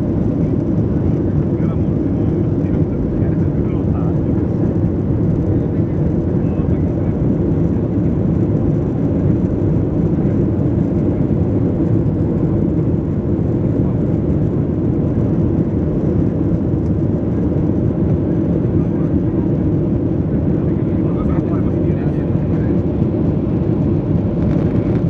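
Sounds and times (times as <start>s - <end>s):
jet engines in airliner cabin: 0.0s - 25.0s.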